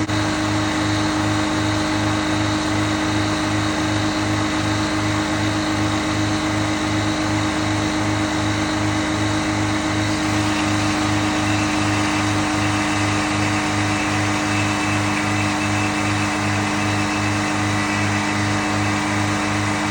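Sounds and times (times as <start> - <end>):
sawmill mechanical drone: 0.0 - 19.9.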